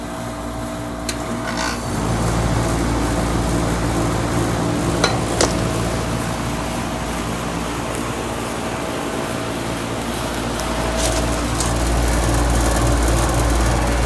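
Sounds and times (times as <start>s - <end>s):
air conditioner compressor and fan hum: 0.0s - 14.0s.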